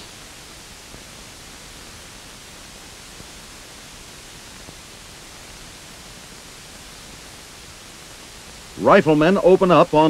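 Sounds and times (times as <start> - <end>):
recording hiss: 0.0 - 10.0.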